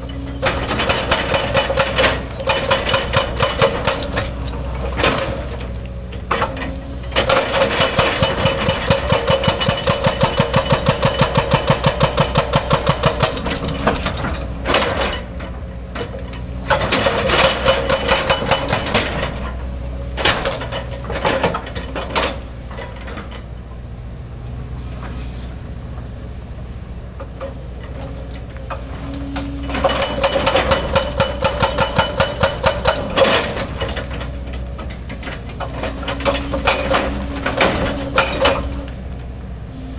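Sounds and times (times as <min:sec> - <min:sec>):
excavator engine humming: 0:00.0 - 0:39.9.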